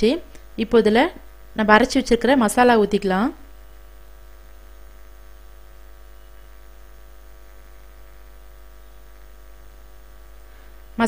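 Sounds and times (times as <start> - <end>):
electrical mains hum: 0.0 - 11.0
faint hiss: 0.0 - 11.0.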